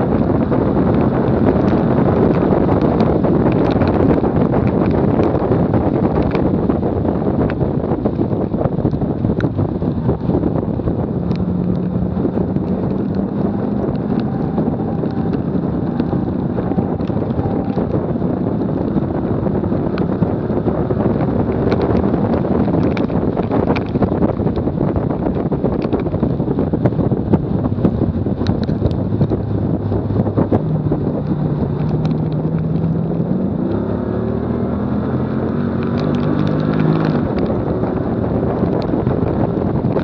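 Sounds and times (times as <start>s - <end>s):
tyre and road roar: 0.0s - 40.0s
wind buffeting microphone: 0.0s - 40.0s.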